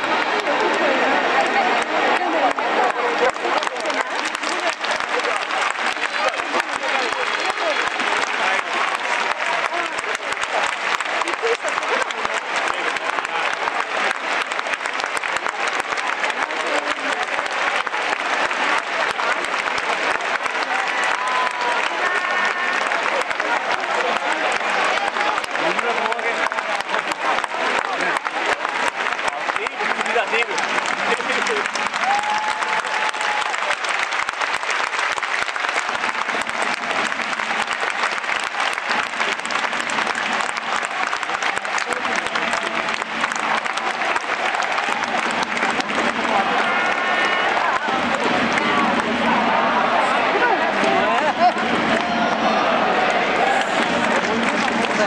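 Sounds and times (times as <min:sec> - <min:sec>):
crowd clapping: 0:00.0 - 0:55.0.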